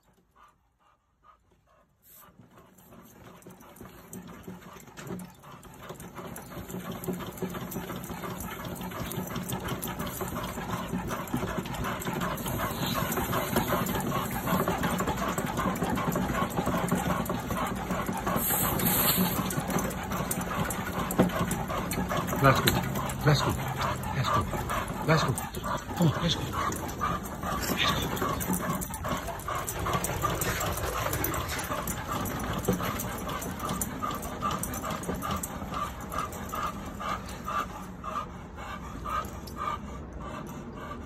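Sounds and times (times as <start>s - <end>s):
treadmill belt and paws clattering: 0.0s - 41.0s.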